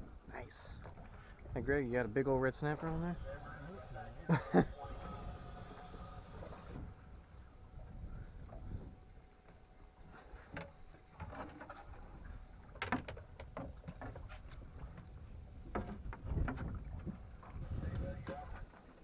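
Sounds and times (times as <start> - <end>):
low rumble of wind and water: 0.0 - 19.0.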